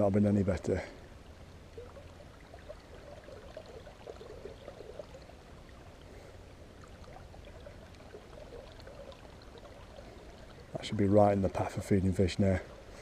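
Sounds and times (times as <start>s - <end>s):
river water babbling: 0.0s - 13.0s.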